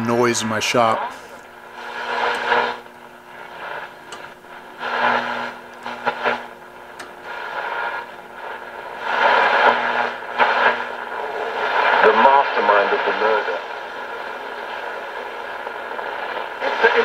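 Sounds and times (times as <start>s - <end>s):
low radio hum: 0.0s - 17.0s
radio static bursts: 0.0s - 17.0s.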